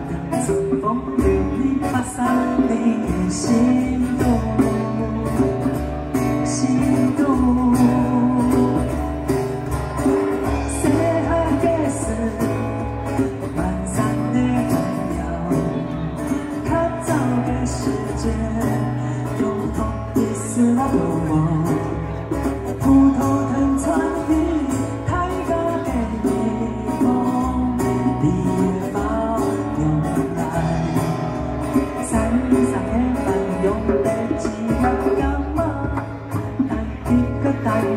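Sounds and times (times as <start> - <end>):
hand drum beat: 0.0 - 37.9
man singing: 0.0 - 37.9
strummed acoustic guitar: 0.0 - 37.9.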